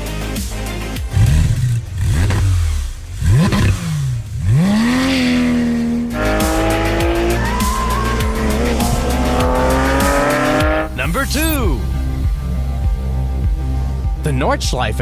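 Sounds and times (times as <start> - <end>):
car engine revving: 1.0 - 14.0.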